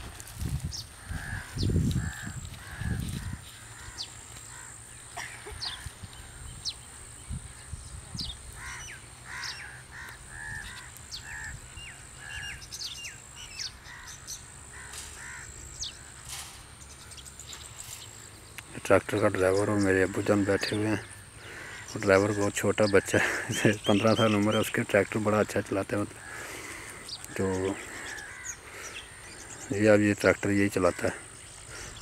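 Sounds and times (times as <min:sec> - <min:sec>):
small birds chirping: 0:00.0 - 0:32.0
crows cawing: 0:00.9 - 0:06.6, 0:08.5 - 0:17.2, 0:19.4 - 0:32.0.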